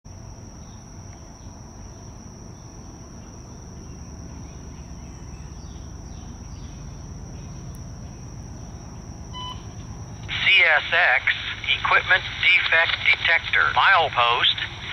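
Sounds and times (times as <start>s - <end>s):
insects buzzing: 0.1s - 14.9s.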